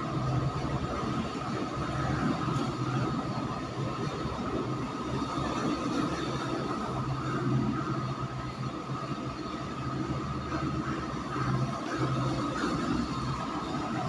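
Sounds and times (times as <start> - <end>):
mechanical hum with high whine: 0.0 - 14.0
noisy rush: 0.0 - 14.0.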